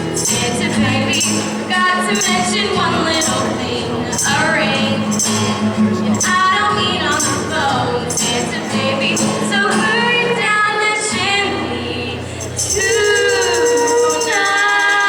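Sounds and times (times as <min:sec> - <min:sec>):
jingling percussion: 0:00.0 - 0:10.0, 0:12.4 - 0:15.0
voices singing: 0:00.0 - 0:15.0.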